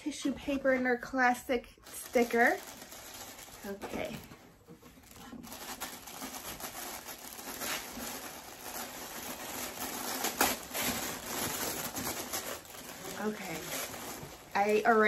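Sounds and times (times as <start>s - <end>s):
tissue paper rustling and crinkling: 1.8s - 15.0s.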